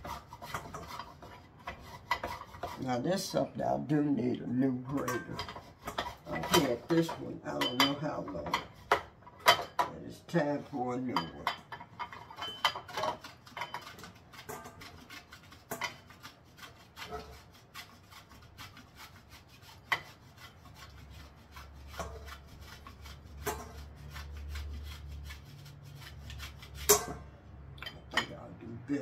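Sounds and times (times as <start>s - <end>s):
rasping on a metal grater: 0.0s - 3.3s, 4.7s - 9.8s, 11.2s - 27.1s.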